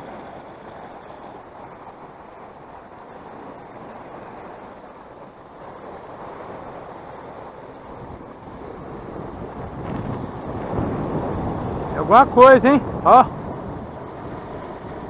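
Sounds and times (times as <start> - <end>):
surf breaking over rocks: 0.0 - 15.0
wind on microphone: 0.0 - 15.0.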